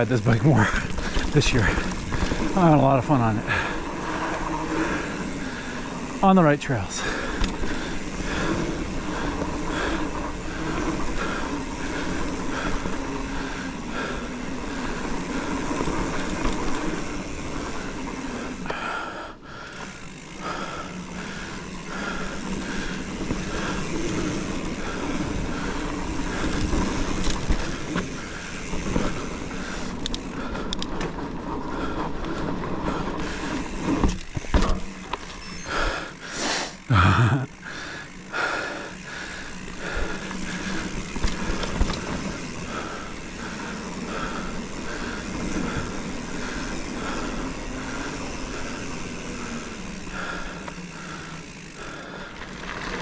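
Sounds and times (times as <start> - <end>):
mountain bike rolling on dirt trail: 0.0 - 53.0.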